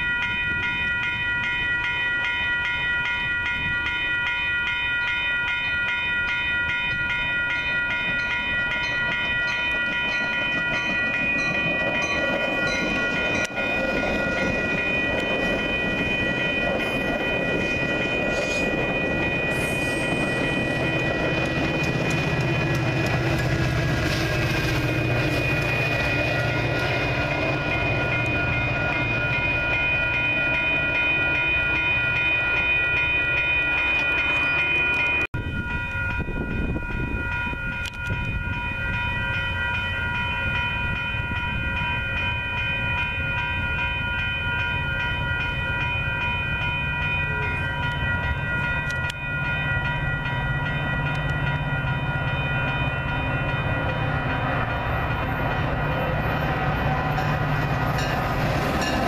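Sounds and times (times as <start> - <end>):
crossing warning bells ringing: 0.0 - 59.0
train rumbling past: 6.8 - 59.0.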